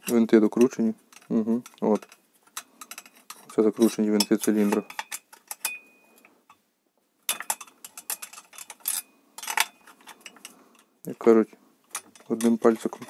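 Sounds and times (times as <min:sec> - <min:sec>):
metal parts clicking and clinking: 0:00.0 - 0:06.3, 0:07.3 - 0:10.9, 0:11.9 - 0:13.0.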